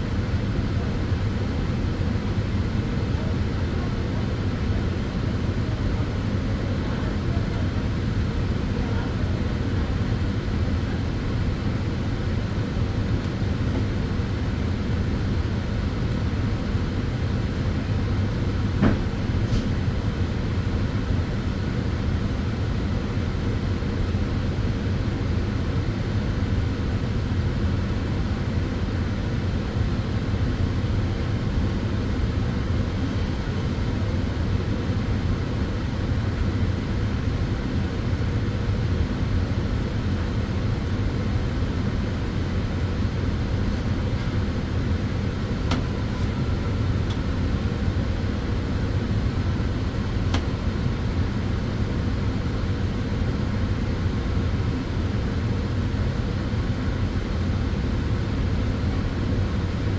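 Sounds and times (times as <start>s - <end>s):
sunbed fans droning: 0.0s - 59.9s.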